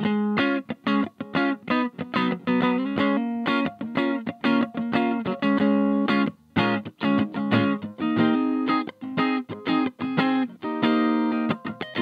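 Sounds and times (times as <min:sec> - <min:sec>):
electric guitar chords: 0:00.0 - 0:12.0.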